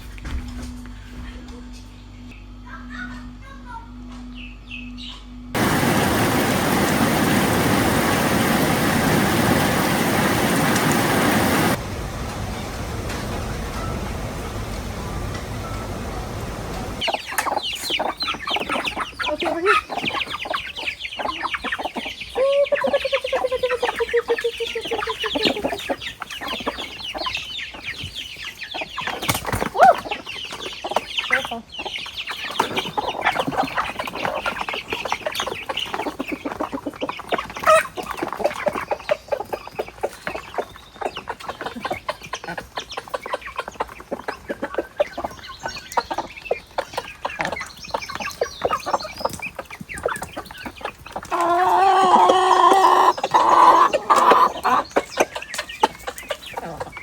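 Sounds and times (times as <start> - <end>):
chickens clucking: 5.0 - 57.0.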